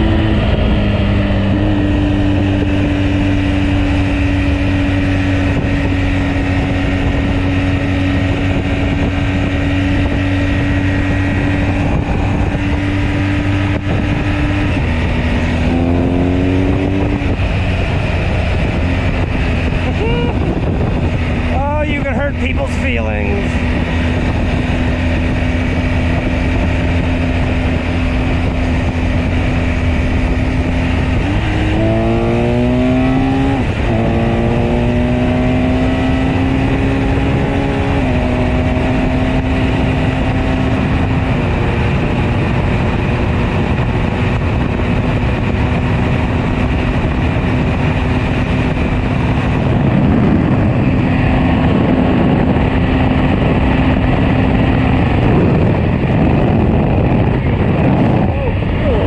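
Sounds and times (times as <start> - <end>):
motorcycle engine running: 0.0 - 59.0
steady rushing noise: 0.0 - 59.0.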